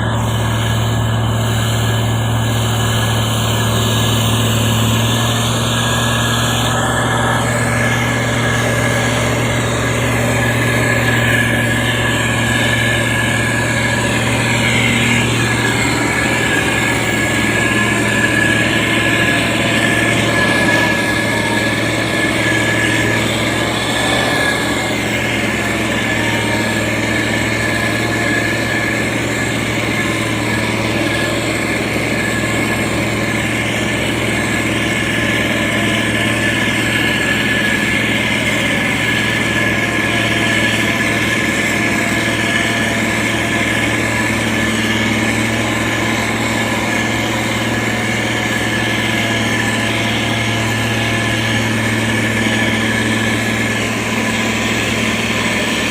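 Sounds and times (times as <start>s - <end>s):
diesel engine running: 0.0s - 55.9s
high whine: 0.0s - 55.9s.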